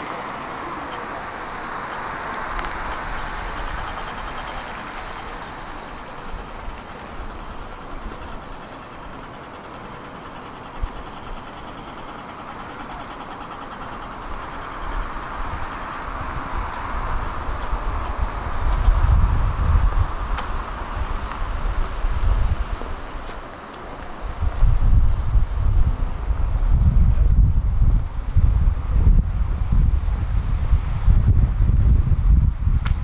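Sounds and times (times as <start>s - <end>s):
passing vehicles rushing: 0.0s - 33.0s.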